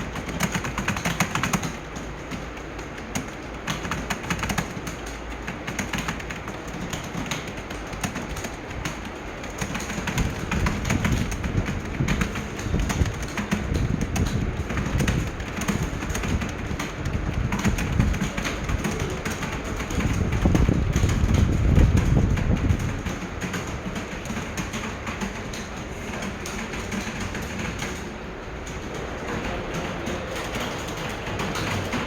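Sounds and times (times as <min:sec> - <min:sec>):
keyboards typing clatter: 0:00.0 - 0:32.0.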